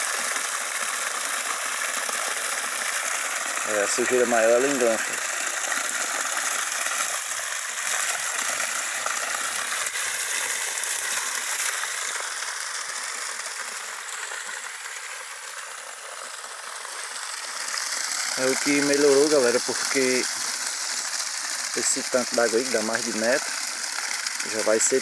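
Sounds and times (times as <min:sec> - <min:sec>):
water rushing over spillway: 0:00.0 - 0:25.0.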